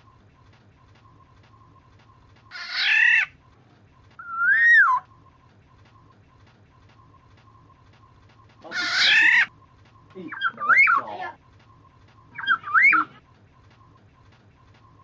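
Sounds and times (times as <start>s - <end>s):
oriole calling: 0.0s - 15.0s.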